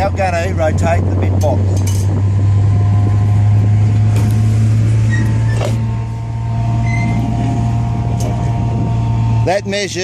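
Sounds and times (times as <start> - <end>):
low machinery drone: 0.0 - 10.0.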